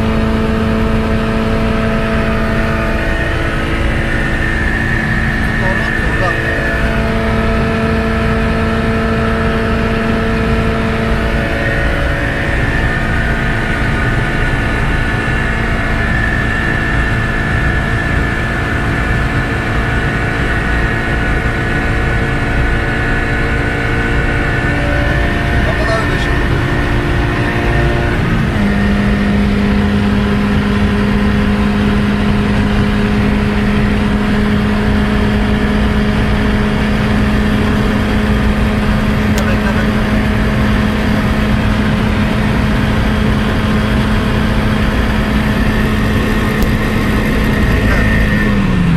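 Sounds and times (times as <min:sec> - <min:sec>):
car engine at high speed: 0:00.0 - 0:48.9
wind and road rush: 0:00.0 - 0:48.9.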